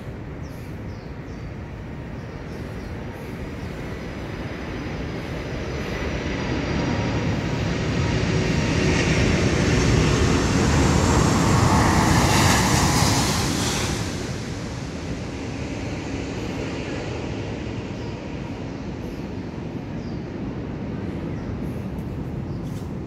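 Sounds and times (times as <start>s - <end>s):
aircraft flying over: 0.0s - 23.0s.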